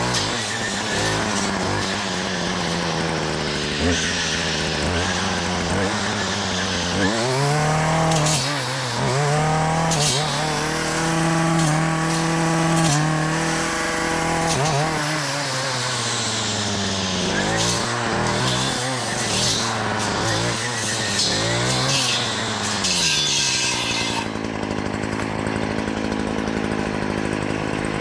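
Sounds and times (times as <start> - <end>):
brush cutter engine revving: 0.0 - 28.0.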